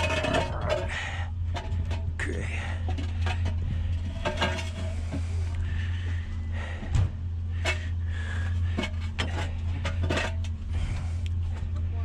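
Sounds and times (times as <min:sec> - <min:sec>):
scrap metal knocks and clanks: 0:00.0 - 0:12.0
steady low hum: 0:00.0 - 0:12.0.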